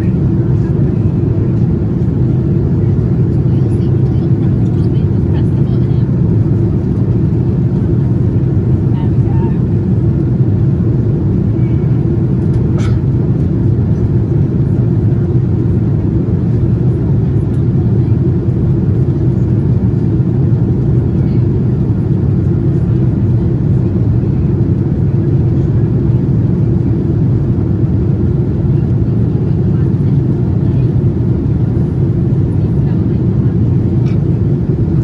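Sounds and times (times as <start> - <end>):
airliner cabin rumble: 0.0 - 35.0.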